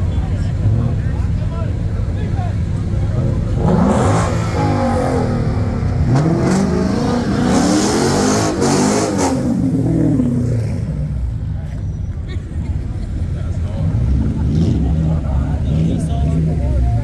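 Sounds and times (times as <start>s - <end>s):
car engines accelerating: 0.0s - 17.0s.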